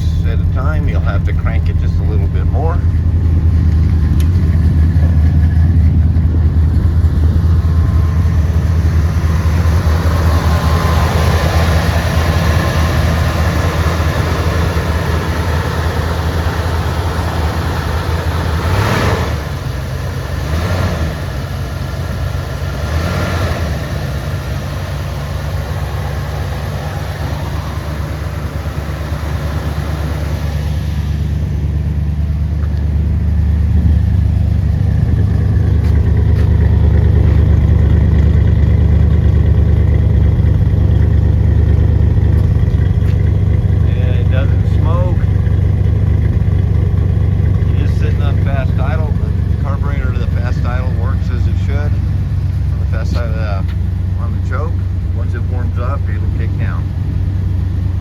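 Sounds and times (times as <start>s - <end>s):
engine idling: 0.0s - 58.0s
engine throttle blips: 0.0s - 58.0s.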